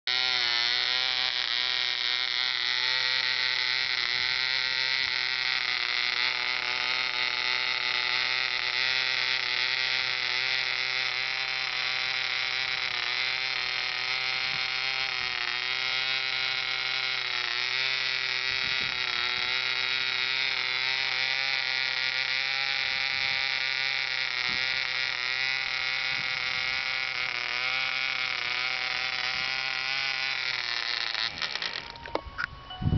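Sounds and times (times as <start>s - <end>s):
model engine high-pitched buzz: 0.0s - 32.9s.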